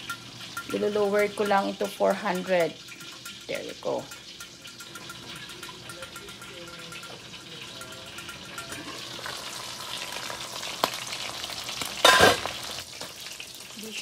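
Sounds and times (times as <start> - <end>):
fish sizzling in hot oil: 0.0 - 14.0.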